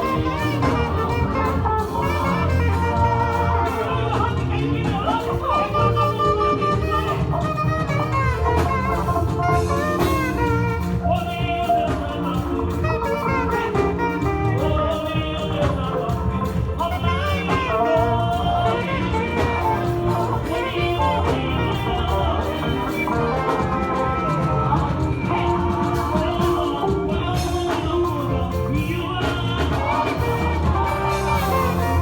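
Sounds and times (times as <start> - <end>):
church praise band playing: 0.0 - 32.0.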